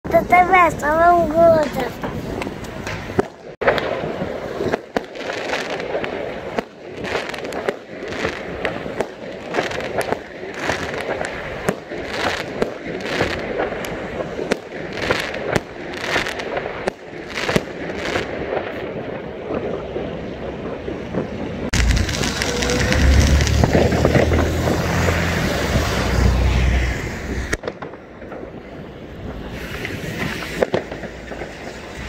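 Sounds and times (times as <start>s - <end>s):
fireworks crackling: 0.0s - 32.0s
fireworks bangs: 0.1s - 32.0s.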